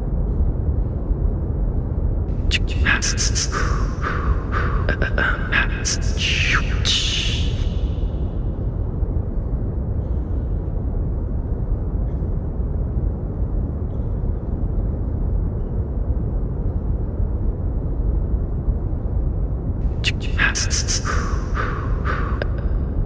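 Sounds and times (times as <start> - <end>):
deep rushing brown noise: 0.0 - 23.0.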